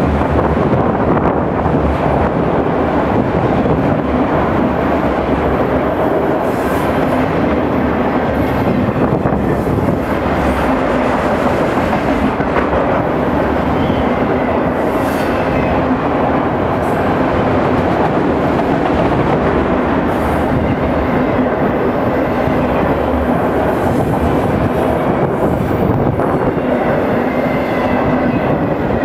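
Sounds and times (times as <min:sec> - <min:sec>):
steel wheels rumbling on rail: 0:00.0 - 0:29.0.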